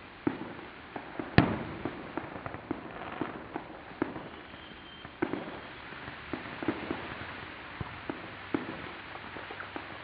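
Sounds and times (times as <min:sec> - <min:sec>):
firecracker pops: 0:00.0 - 0:10.0
steady background hiss: 0:00.0 - 0:10.0.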